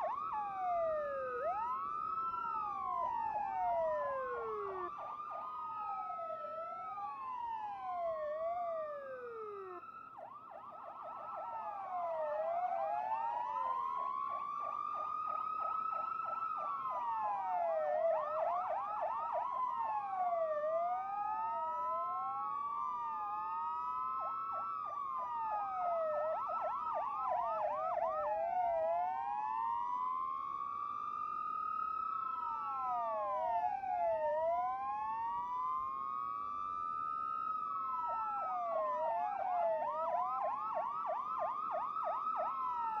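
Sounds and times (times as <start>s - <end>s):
police sirens wailing: 0.0s - 43.0s.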